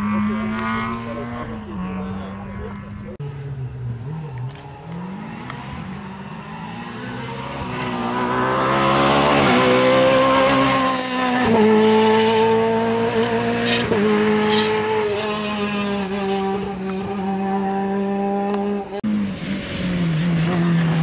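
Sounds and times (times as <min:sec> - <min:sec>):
car engine revving high: 0:00.0 - 0:21.0.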